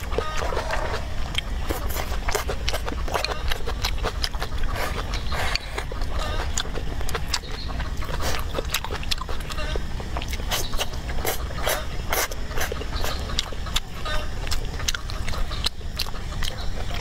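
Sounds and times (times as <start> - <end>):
person chewing: 0.0 - 17.0
lip smacking with wet clicks: 1.2 - 17.0.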